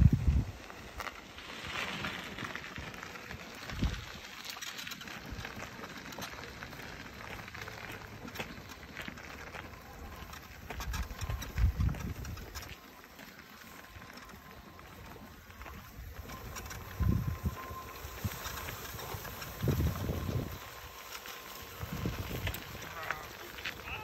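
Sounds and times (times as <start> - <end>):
long grass rustling and crackling: 0.0 - 24.0.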